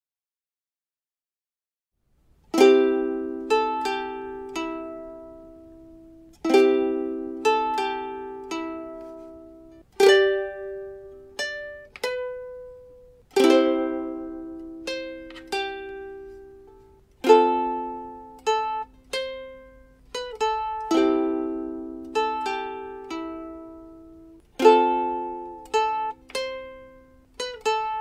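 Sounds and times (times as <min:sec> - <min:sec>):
plucked string instrument music: 0:02.4 - 0:28.0.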